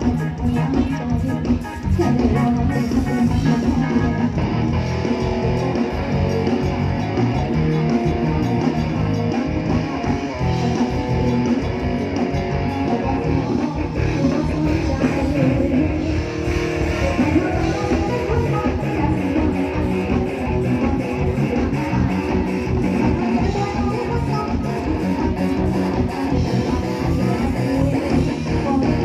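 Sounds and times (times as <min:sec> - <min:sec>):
bass guitar: 0:00.0 - 0:29.0
electric guitar: 0:00.0 - 0:29.0.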